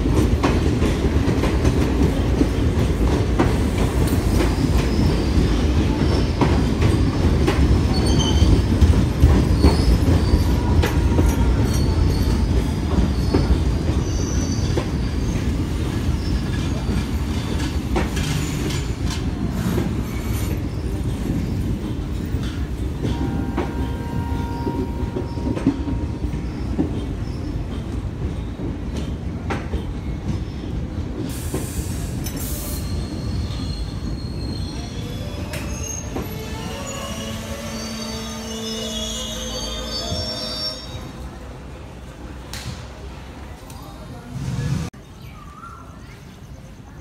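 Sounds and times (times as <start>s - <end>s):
train coaches rumbling past: 0.0s - 47.0s.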